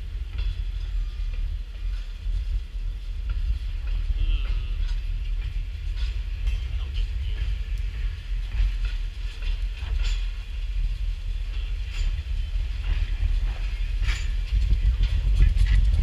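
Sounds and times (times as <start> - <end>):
railroad cars rumbling past: 0.0 - 16.0.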